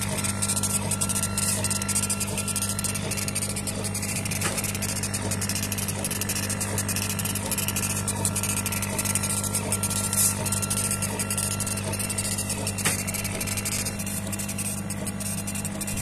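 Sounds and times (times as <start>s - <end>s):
short machine whine: 0.0s - 15.5s
laser engraving machine hum: 0.0s - 16.0s.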